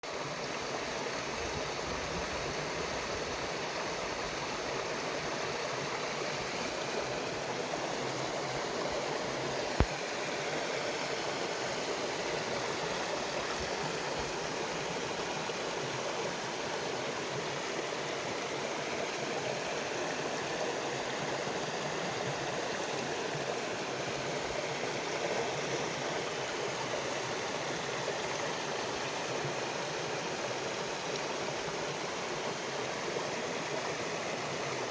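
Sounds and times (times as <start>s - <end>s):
mountain stream rushing: 0.0s - 34.9s.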